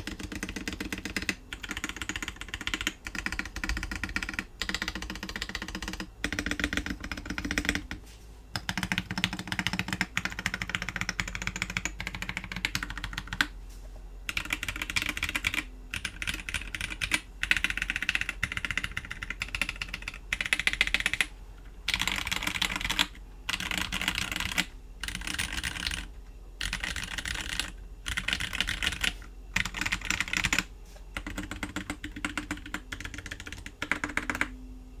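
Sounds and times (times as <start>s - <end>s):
mechanical keyboard typing: 0.0s - 13.5s, 14.3s - 21.3s, 21.9s - 34.5s.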